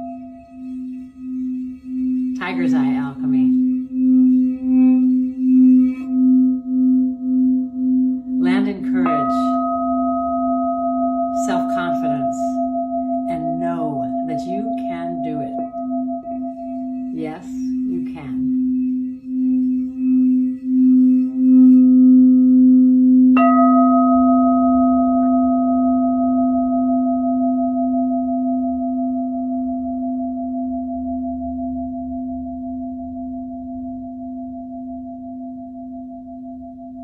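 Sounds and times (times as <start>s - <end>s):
singing bowl struck ringing: 0.0s - 29.7s
singing bowl low hum: 0.0s - 37.0s.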